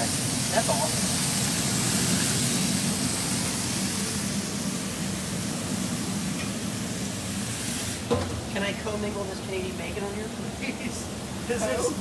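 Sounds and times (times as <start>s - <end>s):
bacon sizzling on a grill: 0.0s - 12.0s.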